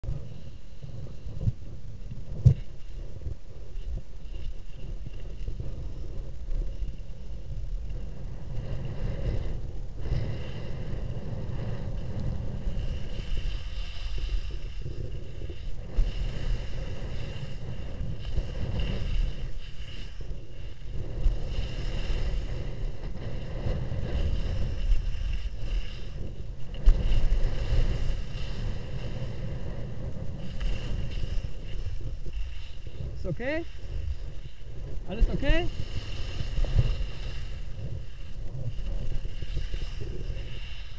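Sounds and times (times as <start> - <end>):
skis sliding over snow: 0.0 - 40.9
wind buffeting microphone: 0.0 - 40.9.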